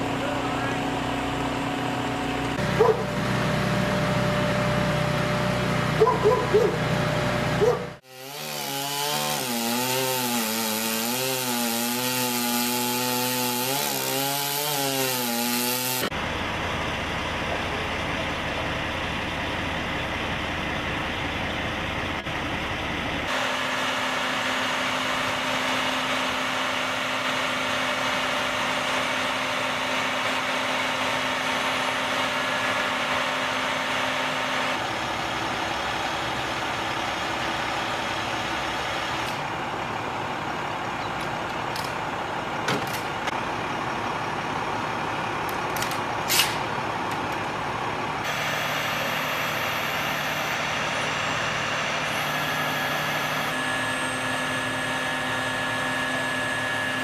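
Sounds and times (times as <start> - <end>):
heavy machinery engine running: 0.0 - 8.0, 16.1 - 57.0.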